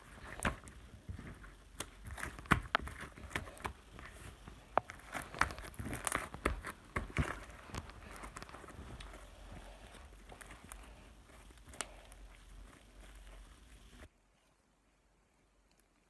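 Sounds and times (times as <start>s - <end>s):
clicks taps and rustling: 0.0s - 14.1s.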